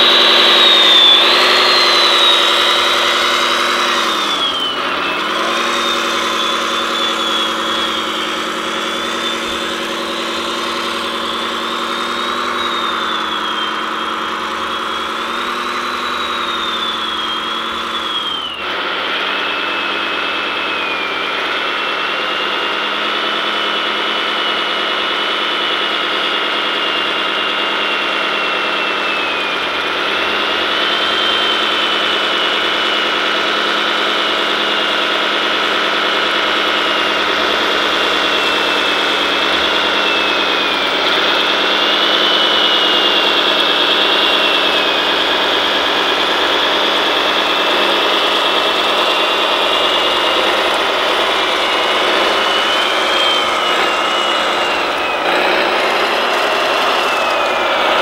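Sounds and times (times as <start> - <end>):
high whine: 0.0 - 58.0
simulated diesel engine through speaker: 0.0 - 58.0.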